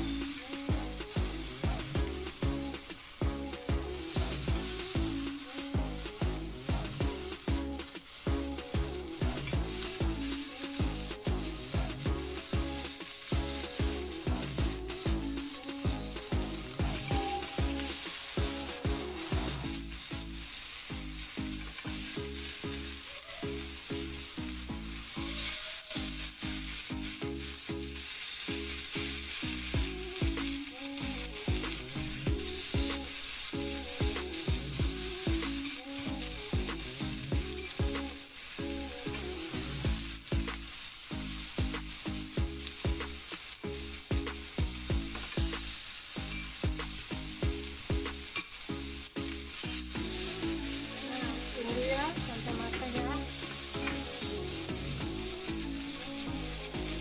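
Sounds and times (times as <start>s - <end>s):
low background music: 0.0s - 25.5s, 26.1s - 57.0s
food sizzling on grill pan: 0.0s - 57.0s.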